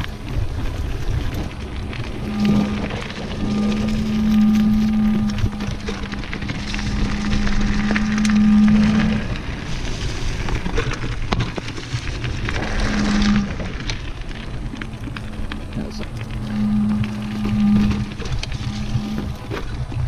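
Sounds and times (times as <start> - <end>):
bike tyres on dirt trail: 0.0 - 20.0
low buzzing hum: 0.0 - 20.0.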